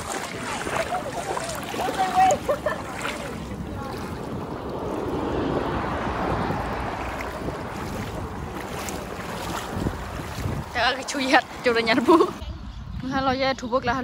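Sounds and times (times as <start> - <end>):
feet sloshing through water: 0.0 - 13.2
wind buffeting microphone: 0.0 - 14.0.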